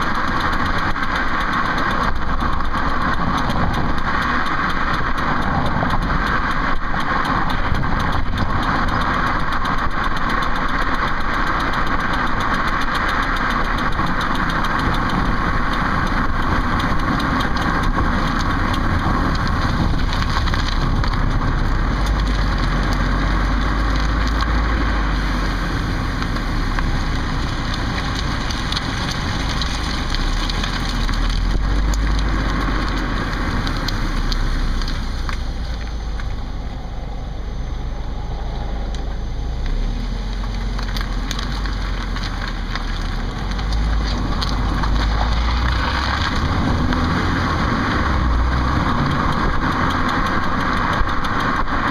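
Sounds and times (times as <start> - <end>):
car running: 0.0 - 51.9
fine repeated clicking: 0.0 - 51.9.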